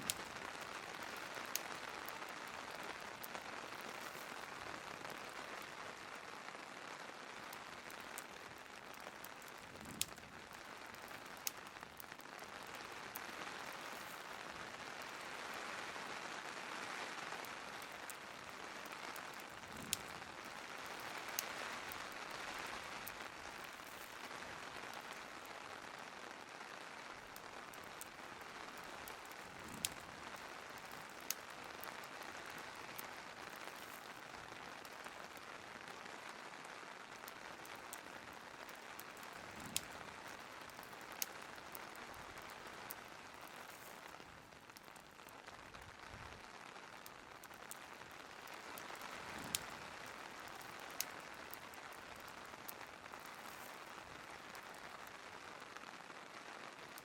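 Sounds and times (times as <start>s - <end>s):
steady rain: 0.0s - 57.0s
wood fire crackles and pops: 0.0s - 57.0s.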